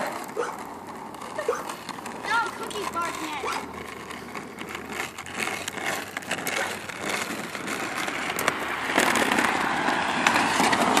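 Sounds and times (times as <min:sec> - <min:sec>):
small hard wheels on rough pavement: 0:00.0 - 0:11.0.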